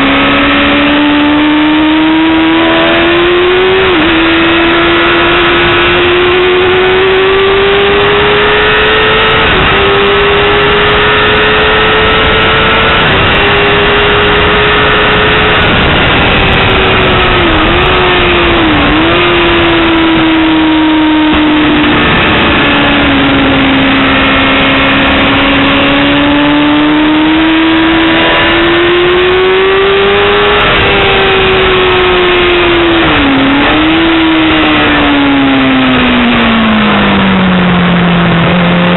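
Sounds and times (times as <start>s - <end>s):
rush of noise: 0.0s - 38.9s
sport bike engine at high revs: 0.0s - 38.9s.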